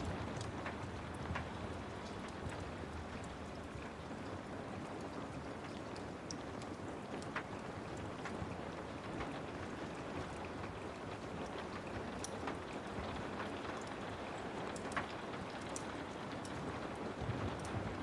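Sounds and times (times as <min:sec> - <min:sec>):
steady rain hiss: 0:00.0 - 0:18.0
wood fire crackling: 0:00.0 - 0:18.0.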